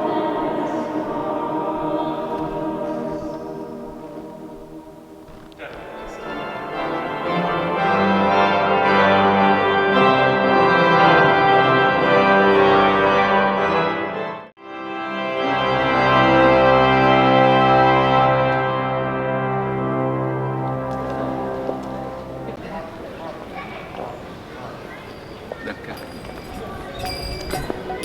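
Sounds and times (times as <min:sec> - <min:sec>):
organ playing sustained chords: 0:00.0 - 0:22.7.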